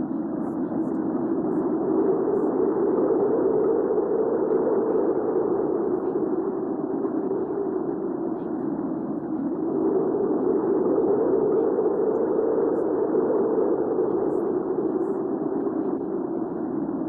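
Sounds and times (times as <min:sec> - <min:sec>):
low rushing wind: 0:00.0 - 0:17.0.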